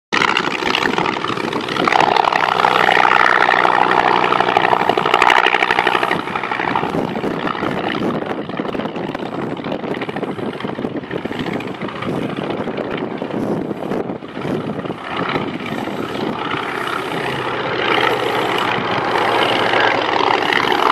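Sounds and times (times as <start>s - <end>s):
propeller plane engine in flight: 0.1s - 20.9s.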